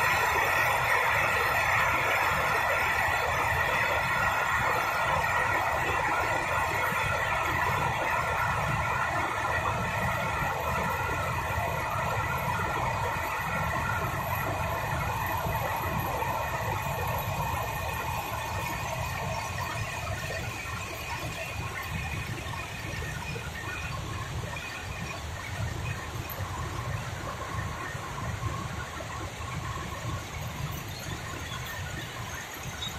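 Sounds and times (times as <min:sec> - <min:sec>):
yarn machinery running: 0:00.0 - 0:32.9.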